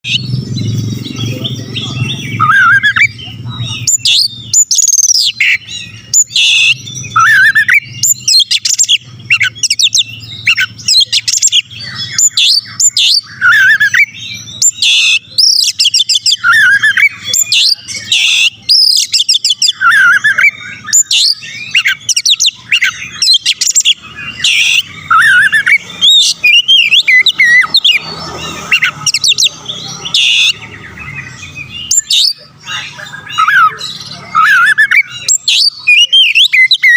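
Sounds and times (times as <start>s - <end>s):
bird singing varied song: 0.0s - 36.9s.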